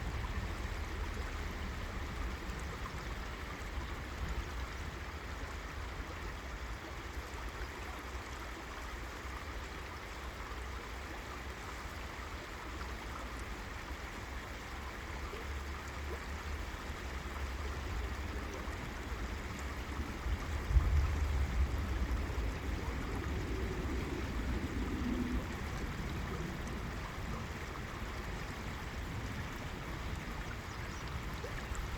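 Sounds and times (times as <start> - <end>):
river water rushing: 0.0 - 31.9.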